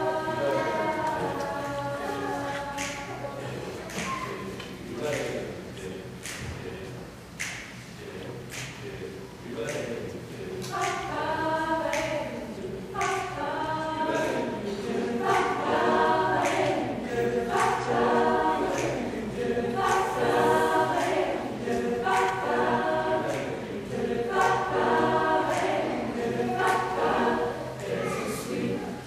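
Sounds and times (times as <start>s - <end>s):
choir singing in harmony: 0.0s - 7.0s, 8.0s - 29.0s.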